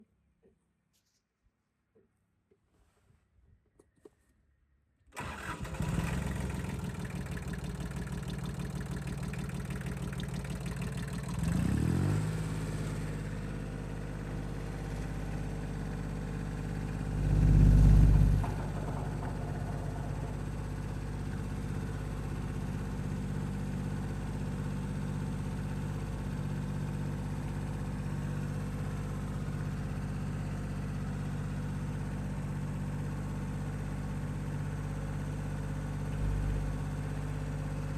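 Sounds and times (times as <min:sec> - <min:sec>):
tractor diesel engine idling: 0:05.2 - 0:37.9.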